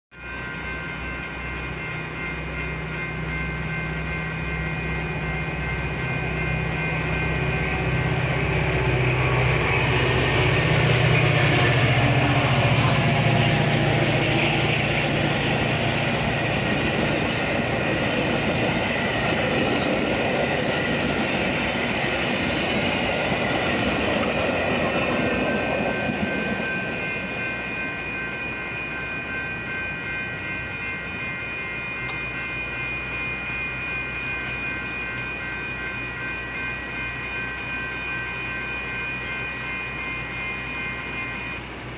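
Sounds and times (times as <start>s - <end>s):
crossing warning bells ringing: 0.1s - 41.9s
train wheels rumbling and clacking: 0.1s - 41.9s
low locomotive hum: 0.2s - 41.9s.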